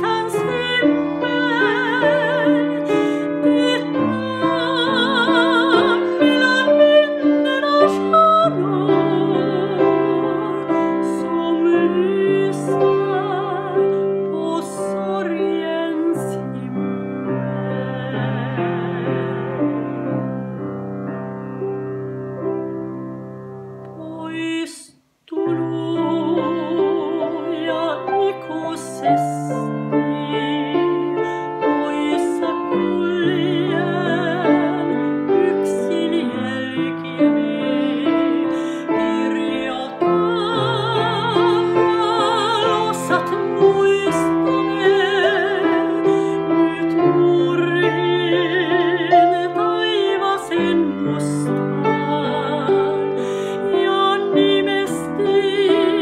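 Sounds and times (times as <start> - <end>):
woman singing operatic ballad: 0.0 - 20.4, 23.9 - 56.0
piano: 0.0 - 56.0.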